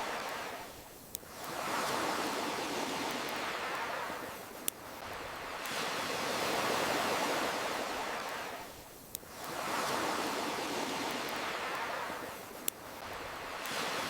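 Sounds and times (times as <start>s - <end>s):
ocean waves washing: 0.0s - 14.0s.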